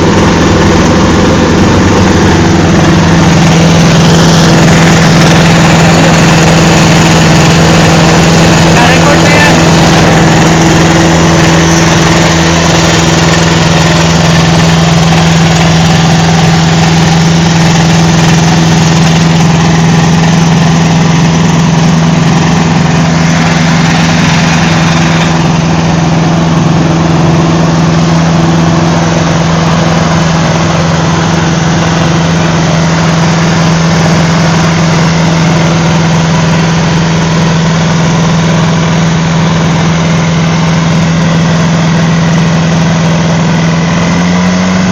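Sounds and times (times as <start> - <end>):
aircraft engine and propeller: 0.0 - 44.9.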